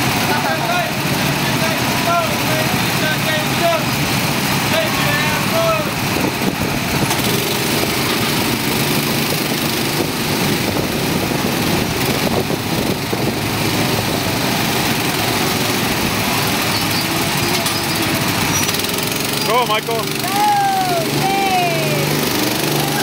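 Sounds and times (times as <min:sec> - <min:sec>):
go-kart engines droning: 0:00.0 - 0:23.0.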